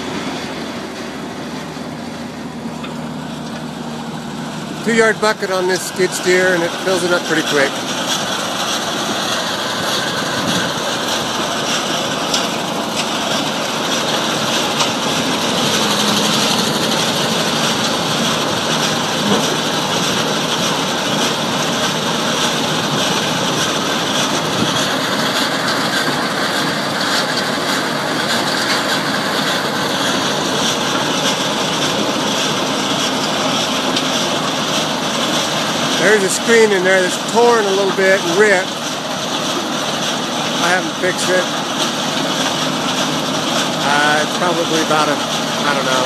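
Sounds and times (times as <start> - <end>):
diesel engine under load: 0.0 - 46.0.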